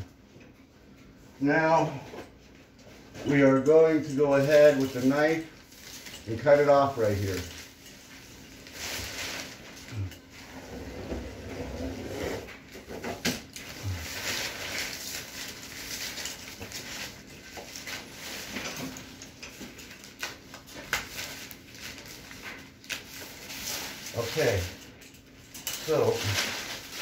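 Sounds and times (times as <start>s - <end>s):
plastic sheeting crinkling: 3.0s - 27.0s.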